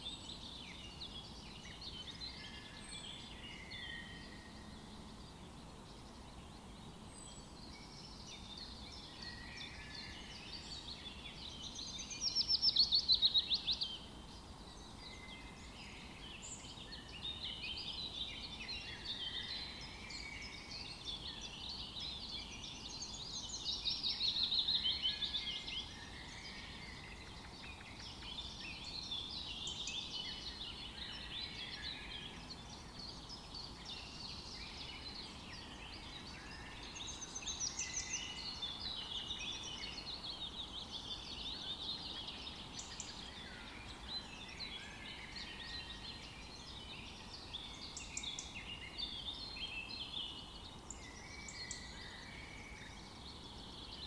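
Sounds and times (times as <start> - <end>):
faint steady hiss: 0.0 - 54.0
songbirds chirping and trilling: 0.0 - 54.0.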